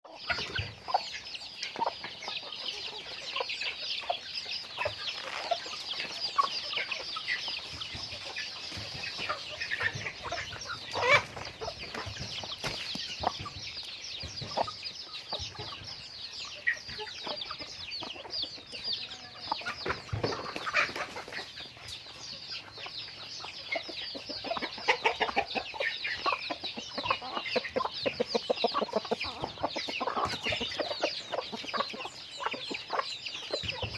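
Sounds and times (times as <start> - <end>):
chickens clucking and calling: 0.0 - 33.9.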